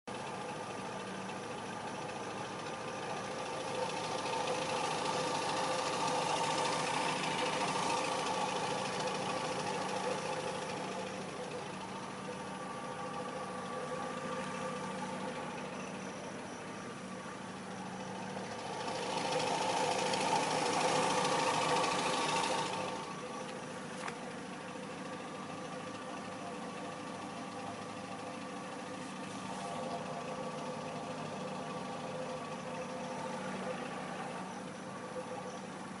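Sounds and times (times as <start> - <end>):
car engine running abnormally: 0.0 - 36.0.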